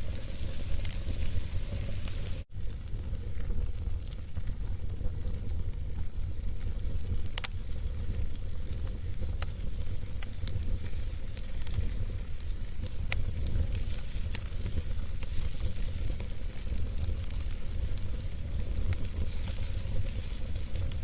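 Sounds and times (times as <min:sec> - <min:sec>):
fire hissing: 0:00.0 - 0:21.0
logs crackling and popping: 0:00.0 - 0:21.0
low rumble of flames: 0:00.0 - 0:21.0.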